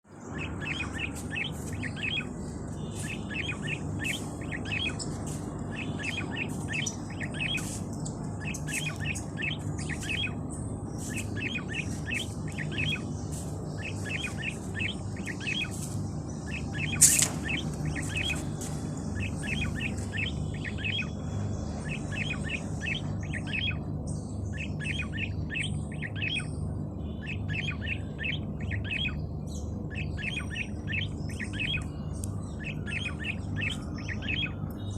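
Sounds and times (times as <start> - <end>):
small birds chirping: 0.0 - 34.9
low background rumble: 0.1 - 34.9.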